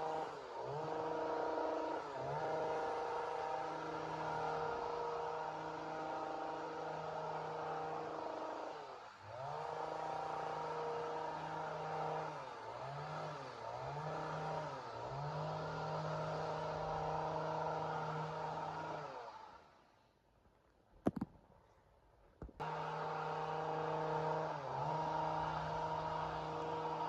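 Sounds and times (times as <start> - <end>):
chainsaw running at high revs: 0.0 - 19.8, 22.6 - 27.0.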